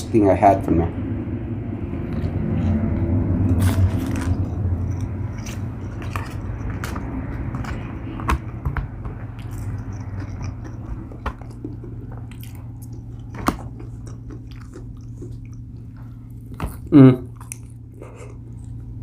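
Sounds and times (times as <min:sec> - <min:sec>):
chewing and biting food: 0:02.0 - 0:19.0.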